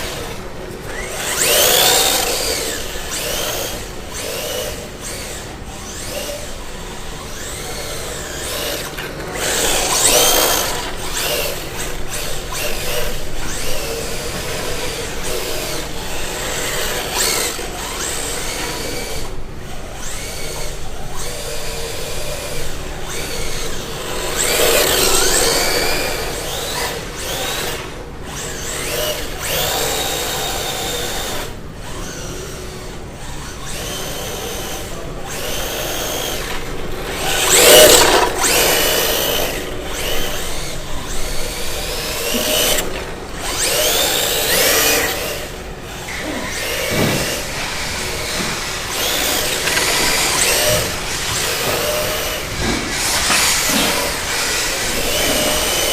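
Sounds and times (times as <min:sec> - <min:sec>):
electric motors whining: 0:00.0 - 0:55.9.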